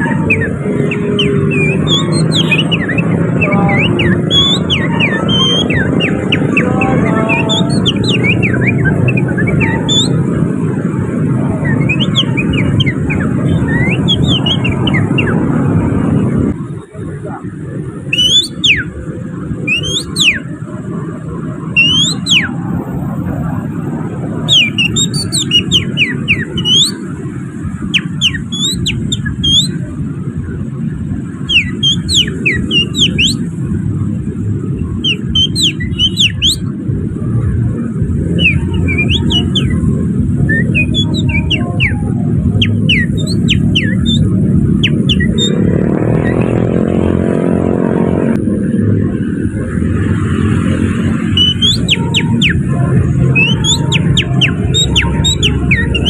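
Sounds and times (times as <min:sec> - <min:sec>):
hand-whistled bird song: 0:00.0 - 0:15.6, 0:18.0 - 0:20.6, 0:21.6 - 0:23.6, 0:24.4 - 0:30.0, 0:31.2 - 0:33.6, 0:34.3 - 0:36.8, 0:37.8 - 0:47.0, 0:50.1 - 0:56.0
traffic rumble: 0:00.0 - 0:56.0
vehicle engine: 0:00.0 - 0:56.0.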